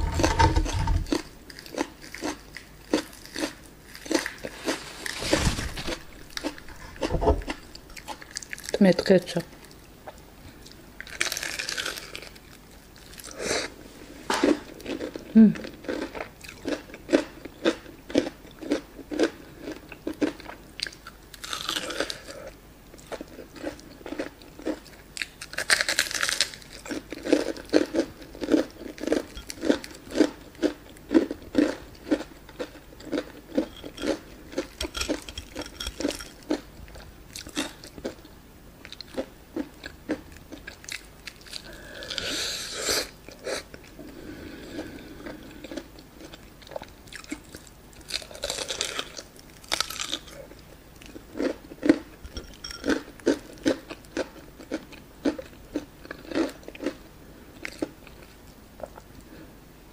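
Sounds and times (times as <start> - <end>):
crunchy chewing: 0.0 - 8.8, 9.6 - 13.8, 14.4 - 59.3.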